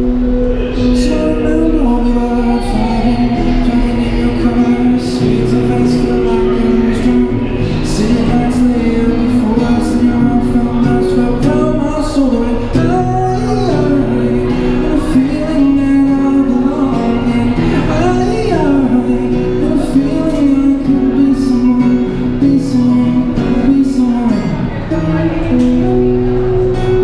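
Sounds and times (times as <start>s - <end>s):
man singing slow melody: 0.0s - 27.0s
strummed acoustic guitar: 0.0s - 27.0s.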